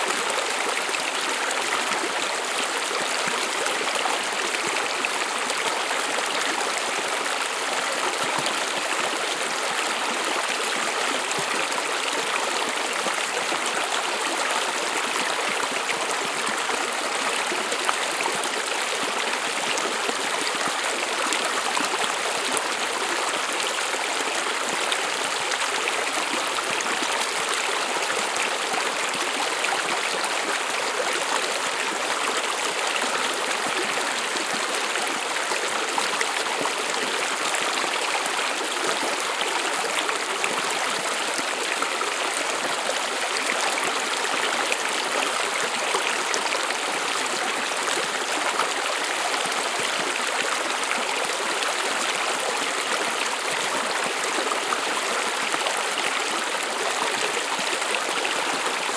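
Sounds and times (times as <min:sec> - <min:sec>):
stream running over rocks: 0:00.0 - 0:58.9.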